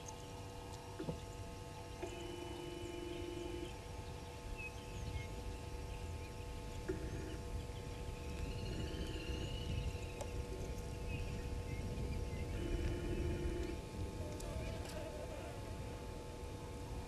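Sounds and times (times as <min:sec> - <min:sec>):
low buzzing tone: 0:00.0 - 0:17.0
low steady rumble: 0:00.0 - 0:17.0
faint bird chirps: 0:01.0 - 0:15.4.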